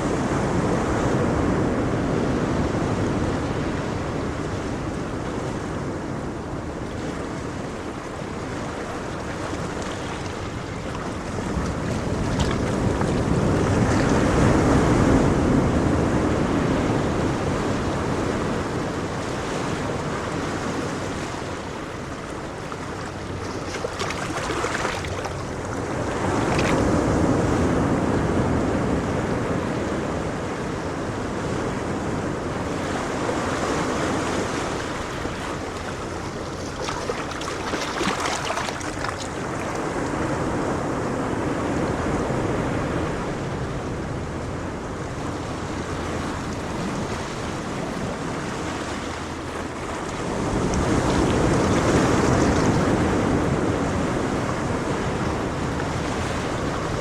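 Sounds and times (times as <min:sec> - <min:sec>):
ocean waves washing ashore: 0:00.0 - 0:57.0
wind on microphone: 0:00.0 - 0:57.0.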